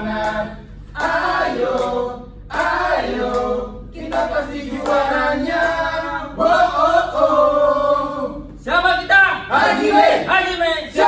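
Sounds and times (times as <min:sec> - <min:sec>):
group singing a chant: 0:00.0 - 0:08.6, 0:09.5 - 0:10.3.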